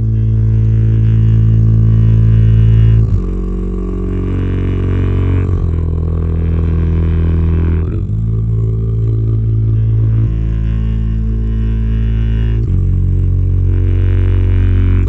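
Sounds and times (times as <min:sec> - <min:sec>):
low droning chord: 0:00.0 - 0:15.0.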